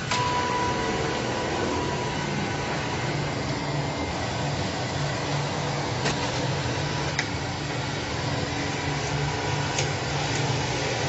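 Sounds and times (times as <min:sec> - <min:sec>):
sawing machine running: 0:00.0 - 0:11.0.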